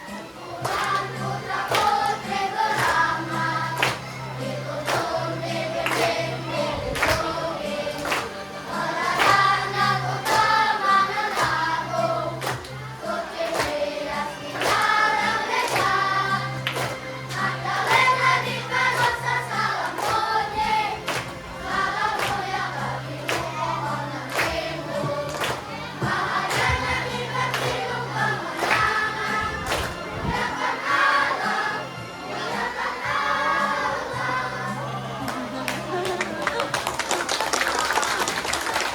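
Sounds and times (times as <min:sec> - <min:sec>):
backing music with steady beat: 0:00.0 - 0:36.4
children's choir singing: 0:00.0 - 0:37.2.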